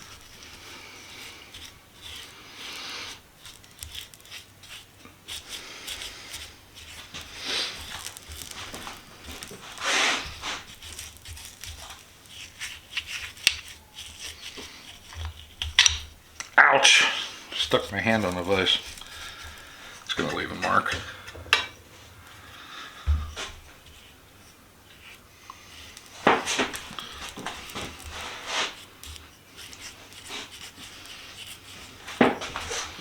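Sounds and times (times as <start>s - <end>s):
oil crackling on hot steel: 0.0s - 33.0s.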